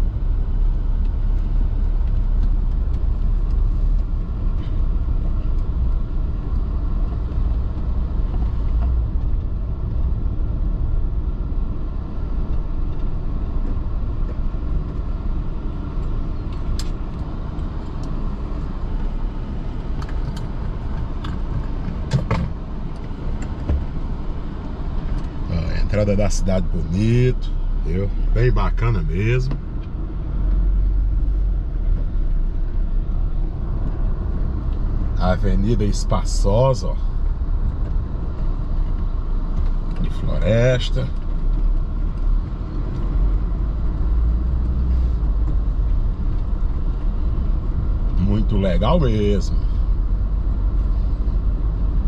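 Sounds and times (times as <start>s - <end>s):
engine and road noise rumble: 0.0s - 52.0s.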